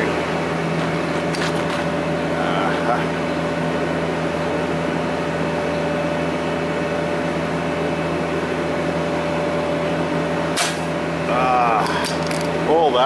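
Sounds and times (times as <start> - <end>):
machinery humming with whine: 0.0 - 13.0.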